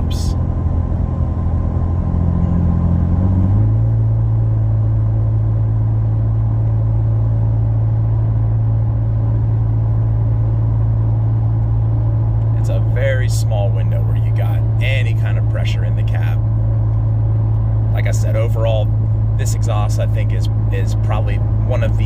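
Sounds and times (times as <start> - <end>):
low exhaust drone from inside cab: 0.0 - 22.0.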